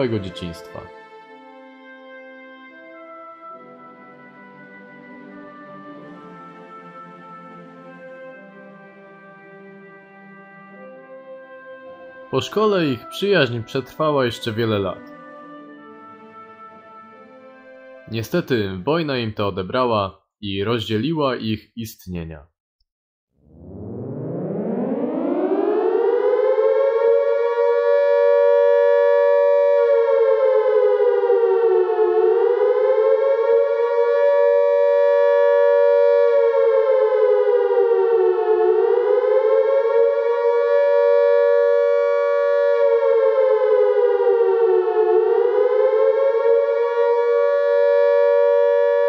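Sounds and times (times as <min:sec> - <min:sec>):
air-raid siren wailing: 0:00.0 - 0:18.4, 0:23.4 - 0:49.0.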